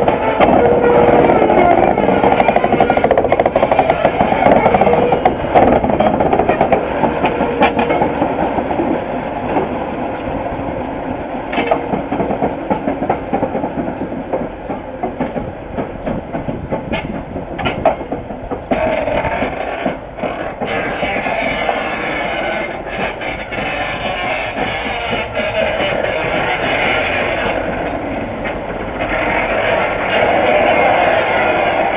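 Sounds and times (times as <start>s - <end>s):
locomotive rolling along track: 0.0s - 31.9s.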